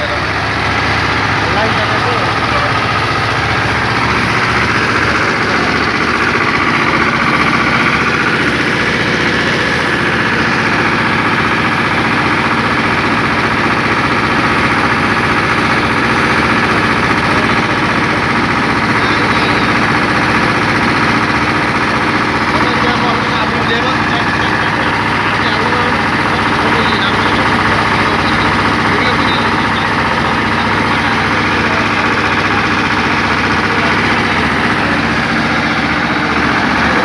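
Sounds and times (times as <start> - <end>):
heavy machinery engine running: 0.0 - 37.0.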